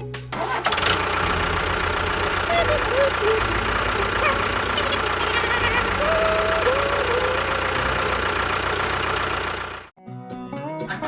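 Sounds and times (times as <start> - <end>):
plucked guitar music: 0.0 - 8.3, 10.0 - 11.0
small engine running: 0.3 - 9.9.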